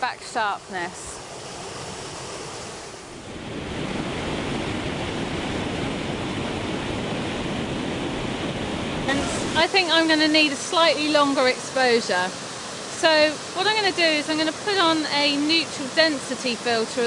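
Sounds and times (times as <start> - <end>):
waterfall and stream rushing: 0.1 - 17.0.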